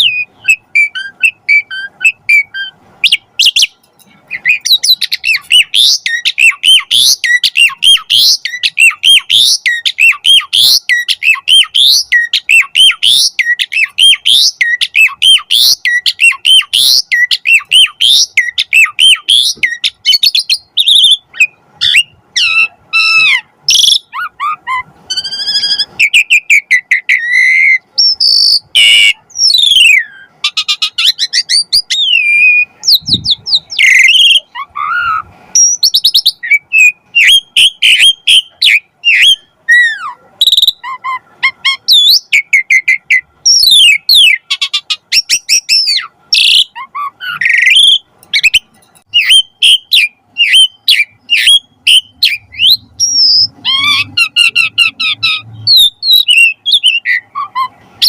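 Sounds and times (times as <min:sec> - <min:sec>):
starling singing: 0:00.0 - 0:58.0.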